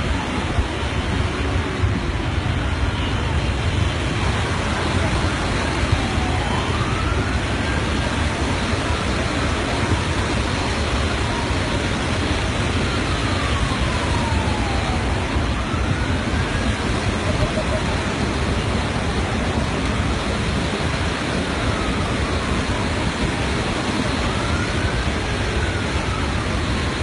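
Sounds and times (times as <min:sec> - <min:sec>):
floodwater rushing: 0:00.0 - 0:27.0
siren wailing faintly: 0:00.0 - 0:27.0.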